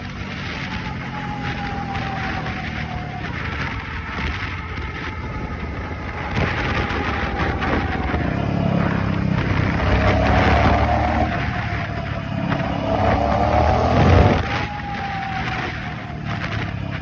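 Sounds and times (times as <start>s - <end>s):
crackly rattle: 0.0s - 17.0s
motorcycle engine running: 0.0s - 17.0s.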